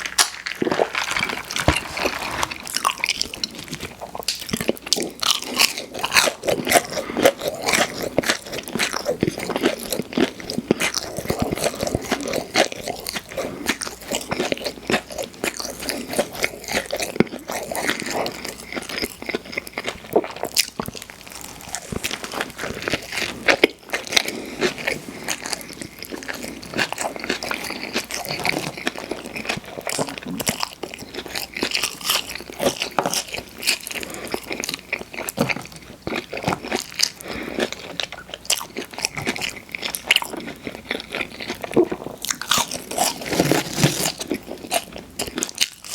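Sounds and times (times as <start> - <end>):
wet chewing with crunches: 0.0 - 45.9.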